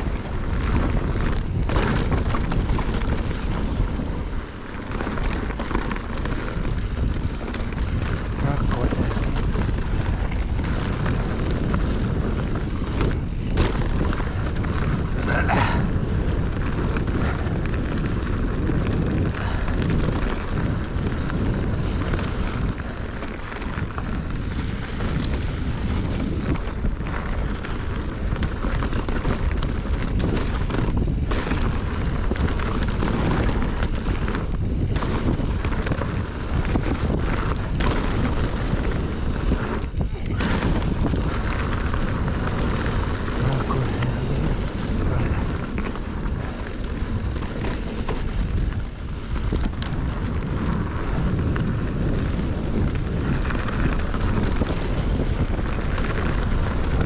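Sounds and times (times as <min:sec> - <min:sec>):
tyres rumbling on dirt: 0:00.0 - 0:57.0
wind buffeting microphone: 0:00.0 - 0:57.0
bike knocks and rattles: 0:00.1 - 0:57.0.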